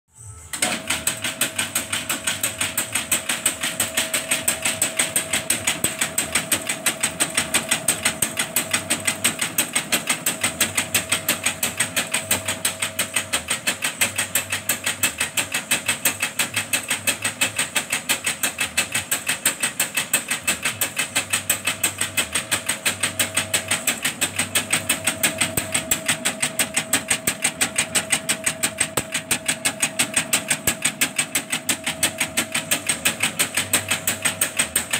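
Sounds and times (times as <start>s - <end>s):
motor hum: 0.2s - 34.9s
sieve clattering: 0.6s - 34.9s.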